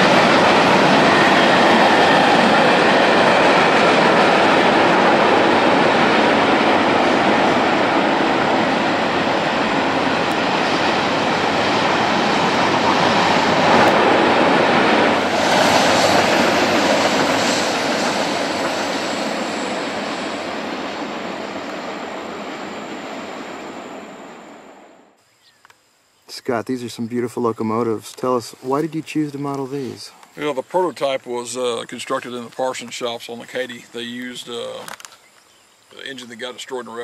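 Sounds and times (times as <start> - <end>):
train wheels rolling on track: 0.0 - 24.9, 28.2 - 35.2.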